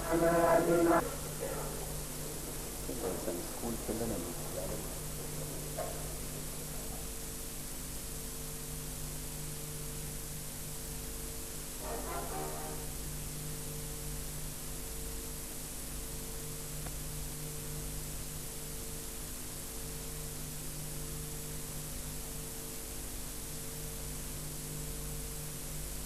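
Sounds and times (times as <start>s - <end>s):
low electrical hum: 0.0s - 26.0s
steady hiss: 0.0s - 26.0s.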